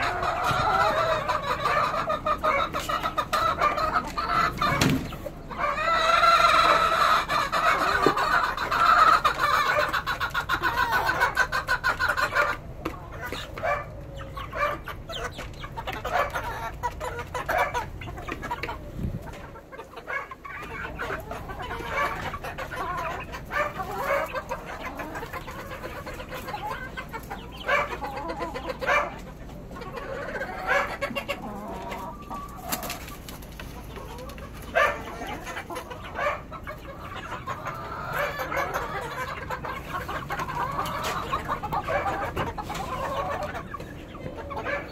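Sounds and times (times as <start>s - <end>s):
chickens clucking and calling: 0.0s - 44.9s.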